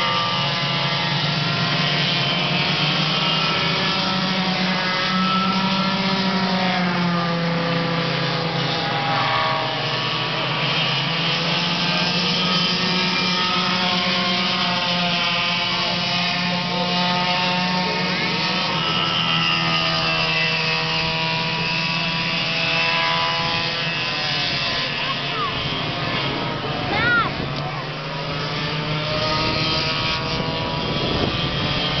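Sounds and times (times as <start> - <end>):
go-kart engines racing: 0.0 - 32.0.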